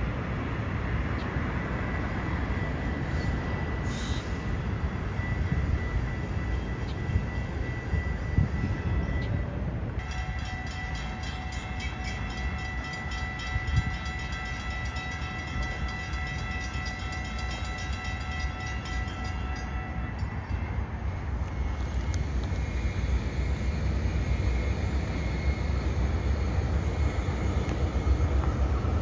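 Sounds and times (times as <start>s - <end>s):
passenger train rumbling past: 0.0s - 29.0s.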